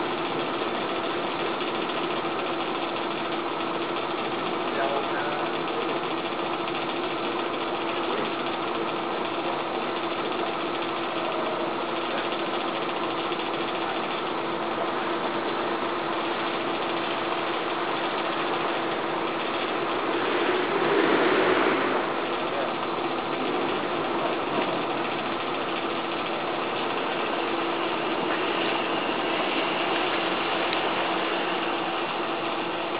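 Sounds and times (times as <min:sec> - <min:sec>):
electric blower running: 0:00.0 - 0:32.9.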